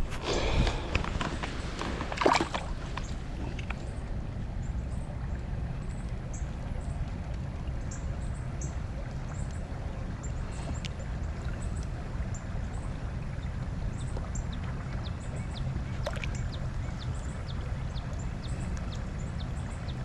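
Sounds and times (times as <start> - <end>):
flowing creek water: 0.0 - 20.0.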